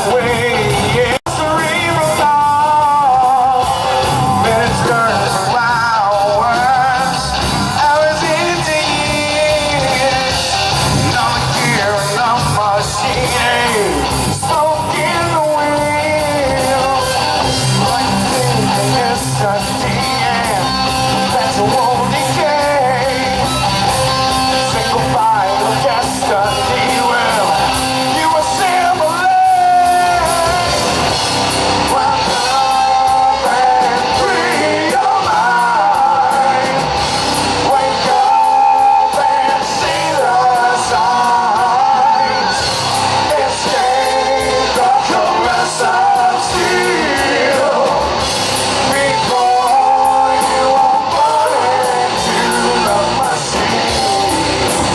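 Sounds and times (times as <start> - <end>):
drums: 0.0 - 54.9
electric guitar: 0.0 - 54.9
people singing and yelling: 0.0 - 54.9.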